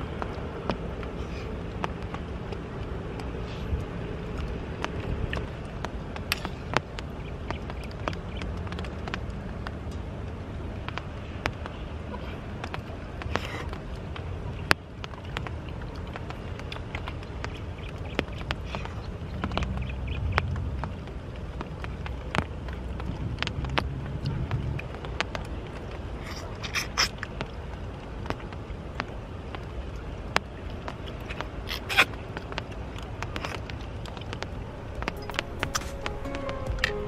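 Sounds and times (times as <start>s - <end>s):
low outdoor background noise: 0.0s - 37.0s.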